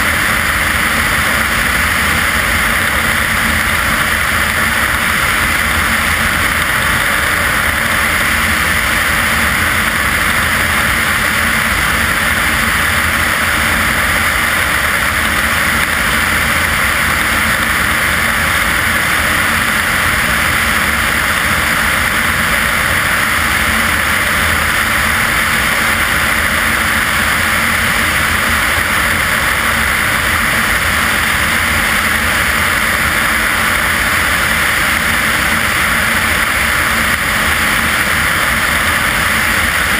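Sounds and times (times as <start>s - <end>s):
propeller aircraft engine: 0.0s - 39.9s
rush of airflow: 0.0s - 39.9s.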